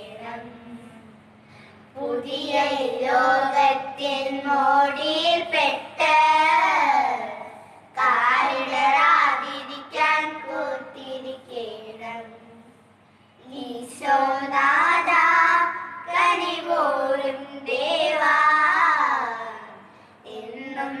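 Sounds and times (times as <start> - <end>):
children singing unaccompanied: 2.0 - 12.3, 13.4 - 21.0.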